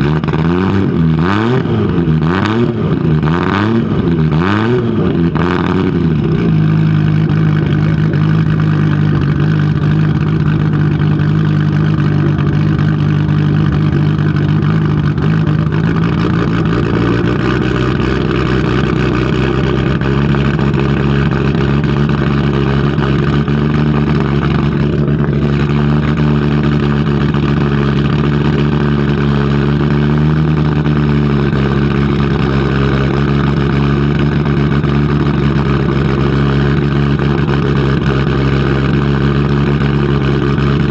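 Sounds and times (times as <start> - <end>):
car engine running loudly: 0.0 - 40.9.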